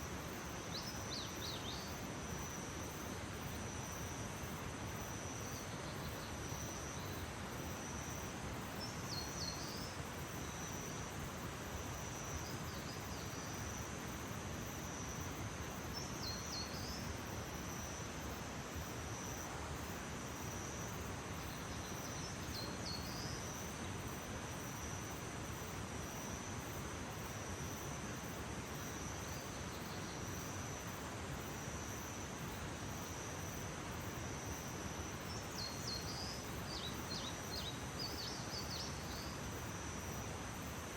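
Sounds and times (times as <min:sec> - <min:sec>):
crickets trilling: 0:00.0 - 0:40.9
soft outdoor noise: 0:00.0 - 0:40.9.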